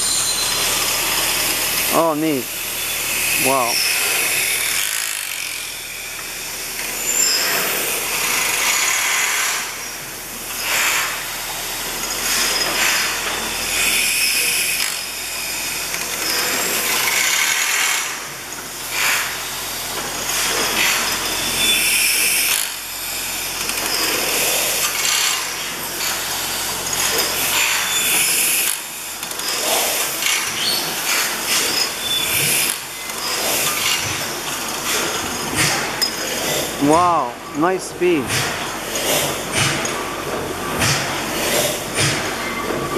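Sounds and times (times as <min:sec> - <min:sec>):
gas engine clattering and hissing: 0:06.3 - 0:42.9.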